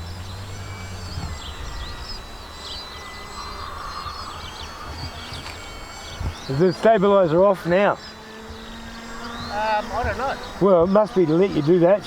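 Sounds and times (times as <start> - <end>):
model plane electric motor whine: 0.0 - 12.0
small birds chirping: 0.0 - 12.0
wind buffeting microphone: 0.0 - 12.0.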